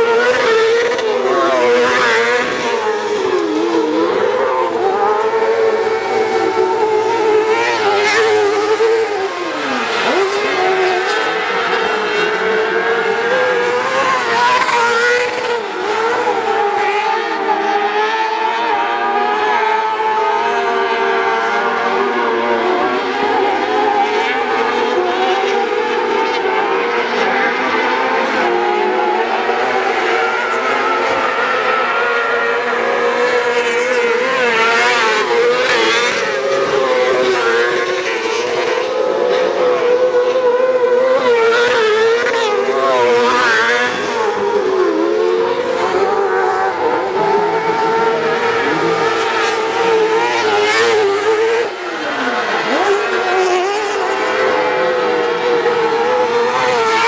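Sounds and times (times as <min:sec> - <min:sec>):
buggy engines revving: 0:00.0 - 0:57.0.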